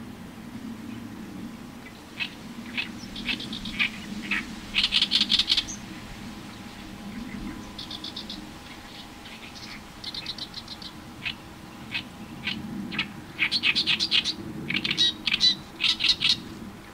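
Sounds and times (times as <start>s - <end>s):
reed warbler singing harshly: 1.8s - 16.5s.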